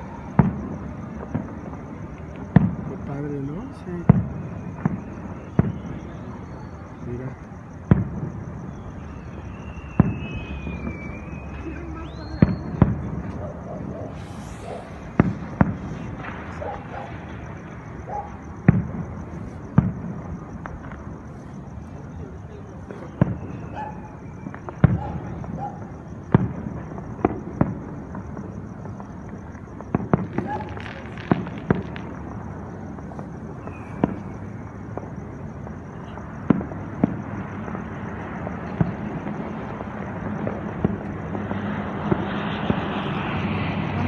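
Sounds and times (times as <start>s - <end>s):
distant firework booms: 0.0s - 44.0s.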